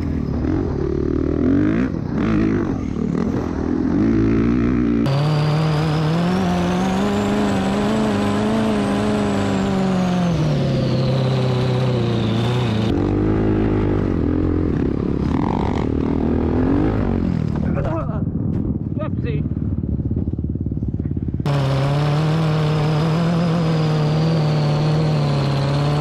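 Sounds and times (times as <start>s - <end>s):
engine buzzing with high whine: 0.0s - 18.9s, 19.6s - 26.0s
dirt bike engine: 0.0s - 26.0s.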